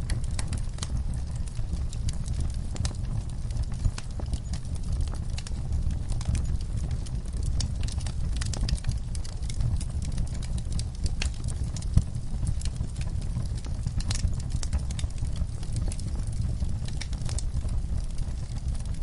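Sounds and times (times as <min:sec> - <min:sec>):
low rumble of flame: 0:00.0 - 0:19.0
wood crackling and popping: 0:00.0 - 0:19.0.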